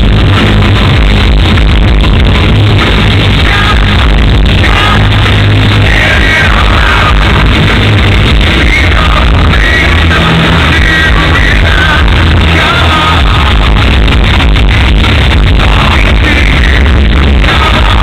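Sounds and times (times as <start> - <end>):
lead line or vocal: 0.0 - 18.0
live rock band playing loud: 0.0 - 18.0.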